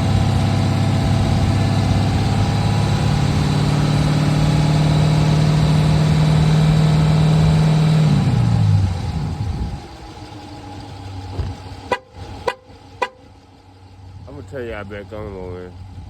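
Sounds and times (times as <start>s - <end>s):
car engine loud exhaust: 0.0s - 16.0s
engine shutting off: 0.0s - 16.0s.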